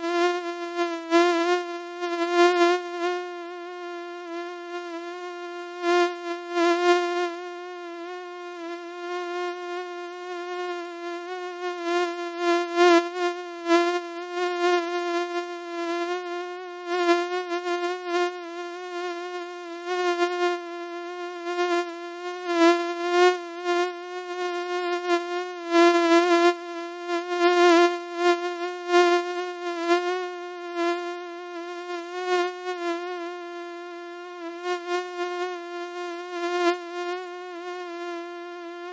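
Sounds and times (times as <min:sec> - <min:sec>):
mosquito whine: 0:00.0 - 0:38.9.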